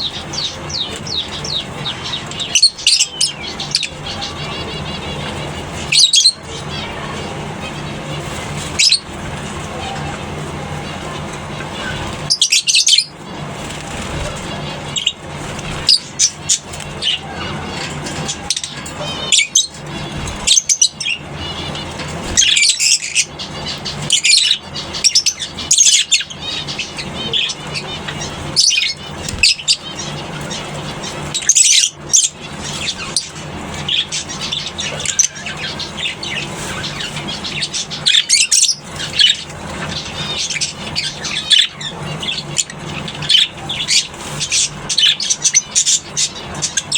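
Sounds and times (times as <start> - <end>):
lovebirds chirping: 0.0 - 46.9
steady low hum: 0.0 - 46.9.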